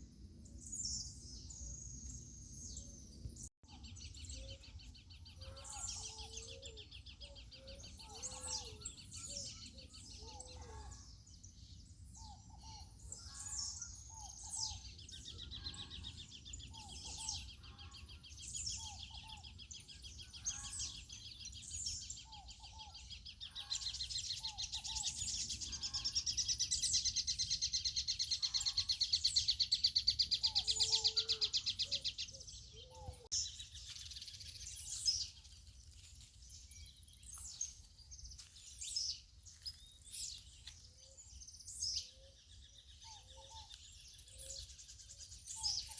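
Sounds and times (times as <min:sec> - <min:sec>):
birds chirping: 0:00.5 - 0:45.9.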